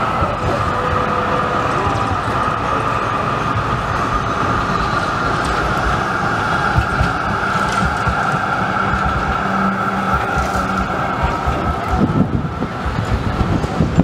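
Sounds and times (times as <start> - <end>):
constant high hum: 0.0 - 14.0
trams and road traffic: 0.0 - 14.0.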